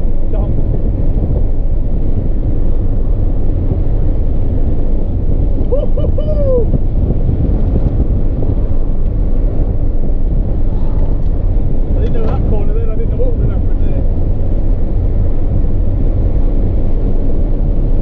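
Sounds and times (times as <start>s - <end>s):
car engine tyres and wind rumble: 0.0s - 18.0s.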